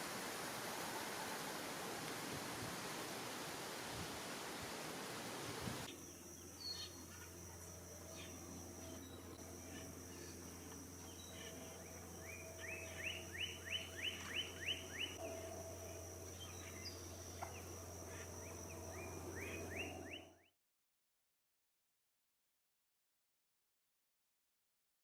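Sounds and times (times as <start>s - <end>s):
steady low background hum: 0.0s - 20.4s.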